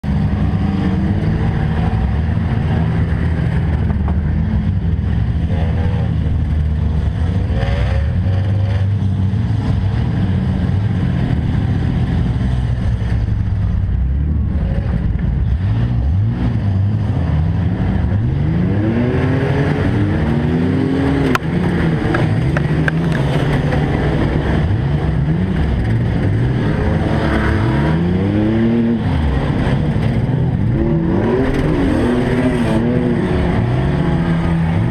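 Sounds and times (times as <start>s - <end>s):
racing truck engines revving: 0.0s - 34.9s.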